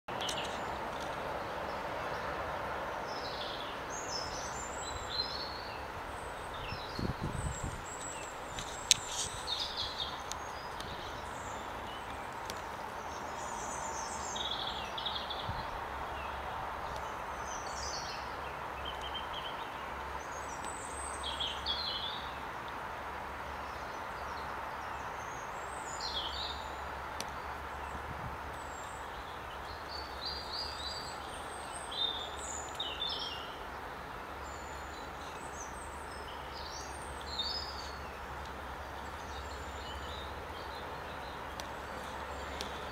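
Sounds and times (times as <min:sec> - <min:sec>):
small birds chirping: 0:00.1 - 0:22.8, 0:23.5 - 0:42.9
outdoor ambience hiss: 0:00.1 - 0:42.9.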